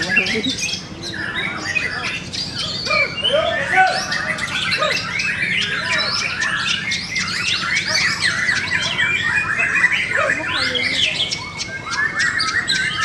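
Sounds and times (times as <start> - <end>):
other caged birds calling: 0.0 - 13.0
songbird singing loudly: 0.0 - 13.0.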